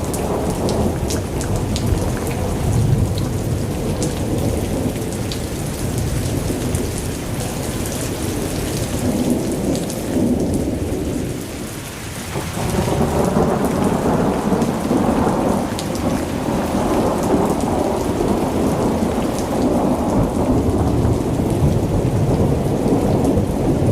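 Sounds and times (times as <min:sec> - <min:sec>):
heavy rain falling: 0:00.0 - 0:23.9
low rumble of thunder: 0:00.0 - 0:23.9.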